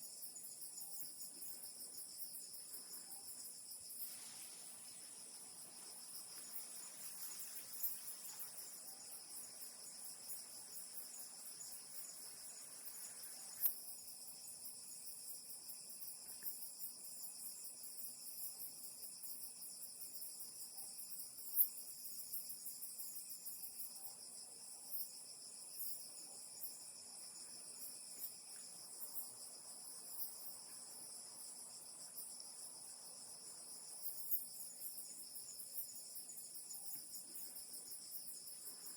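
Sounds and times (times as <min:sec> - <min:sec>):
crickets trilling: 0:00.0 - 0:38.9
lower insect trill: 0:00.0 - 0:38.9.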